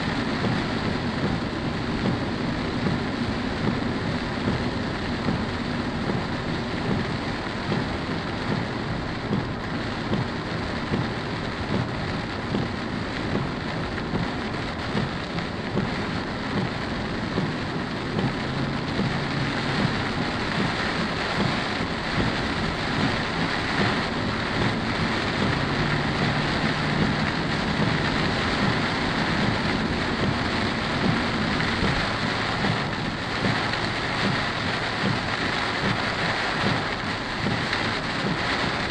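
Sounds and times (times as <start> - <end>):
heavy rain on car roof: 0.0 - 38.9.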